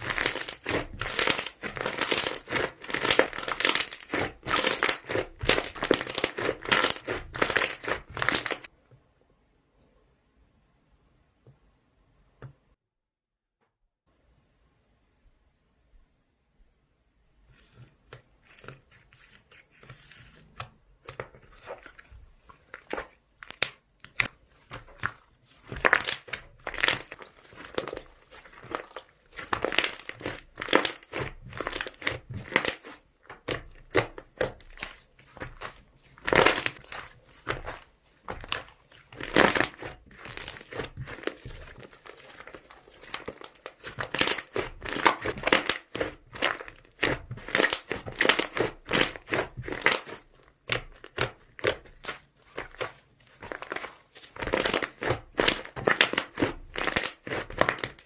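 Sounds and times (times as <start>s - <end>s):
slime squishing by hand: 0.0s - 8.7s, 17.4s - 58.0s.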